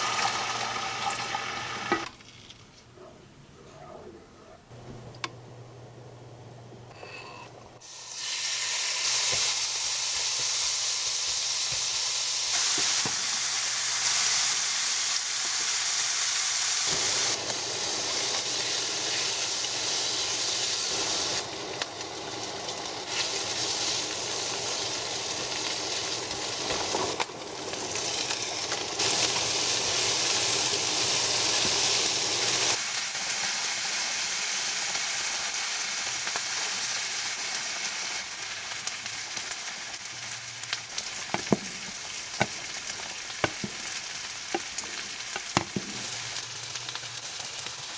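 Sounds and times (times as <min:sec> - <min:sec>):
food sizzling in a pan: 0:00.0 - 0:02.1, 0:07.8 - 0:47.9.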